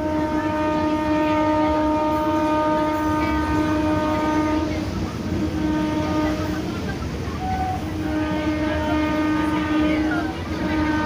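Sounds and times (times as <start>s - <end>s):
train horn blast: 0.0s - 6.7s, 7.4s - 11.0s
train coaches rumbling and clattering: 0.0s - 11.0s.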